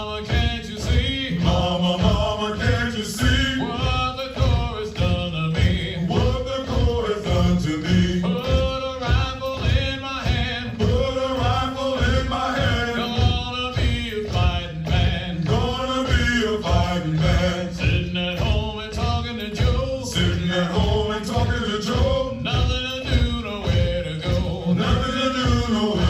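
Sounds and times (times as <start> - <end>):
men chanting a marching cadence: 0.0 - 26.0
steady low beat: 0.0 - 26.0.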